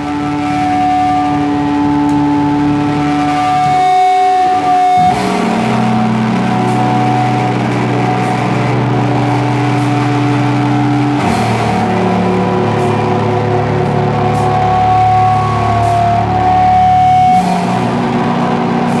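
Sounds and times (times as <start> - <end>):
electric guitar sustained chords: 0.0 - 19.0
rock band playing live: 0.0 - 19.0.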